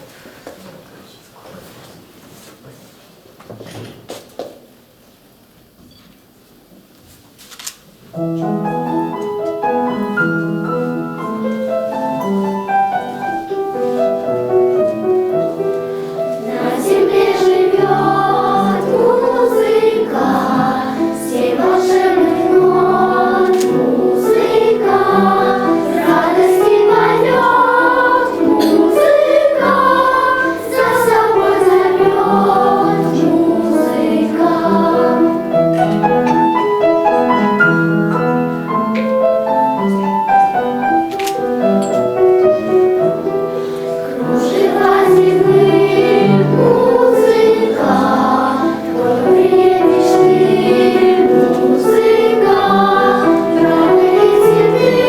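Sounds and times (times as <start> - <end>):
musical accompaniment: 8.2 - 55.0
children's choir singing: 8.3 - 55.0.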